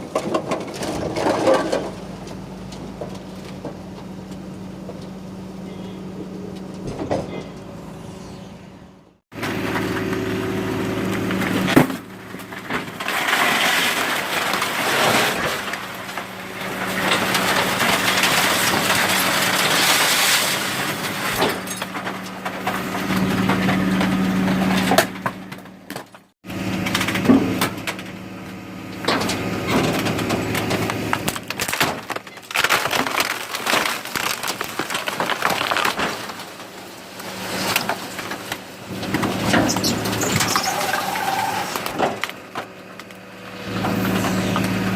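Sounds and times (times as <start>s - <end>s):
compactor crushing rubbish: 0.0s - 7.9s, 9.3s - 44.9s
hydraulics humming: 0.0s - 44.9s.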